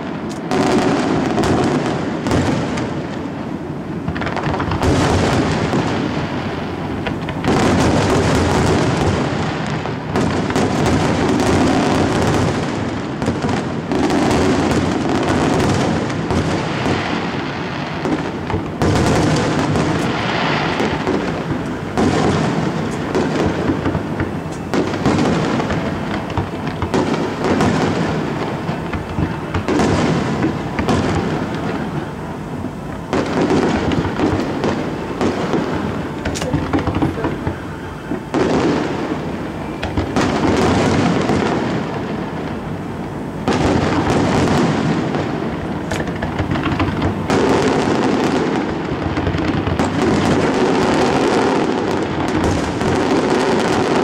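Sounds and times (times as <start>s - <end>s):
fireworks exploding: 0.0s - 54.0s.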